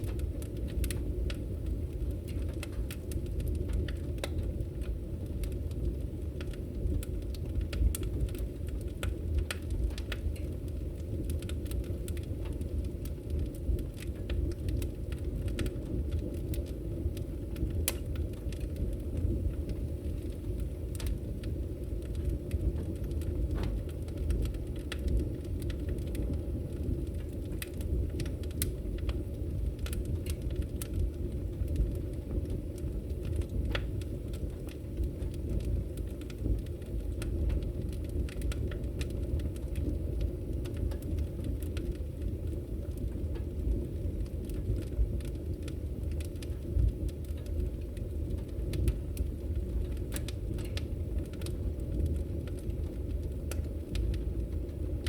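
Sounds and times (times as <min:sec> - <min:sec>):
fire crackles and pops: 0:00.0 - 0:55.0
wood fire rumbling: 0:00.0 - 0:55.0.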